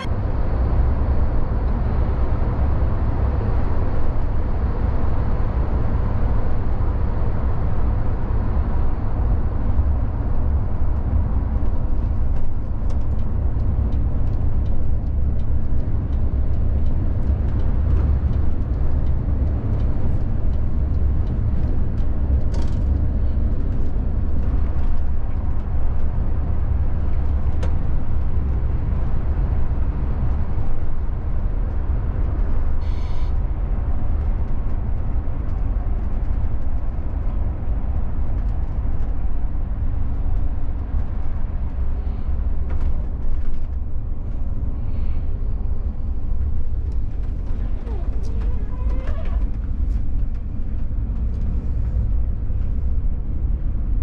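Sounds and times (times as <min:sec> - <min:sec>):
coach engine and road rumble: 0:00.0 - 0:54.0.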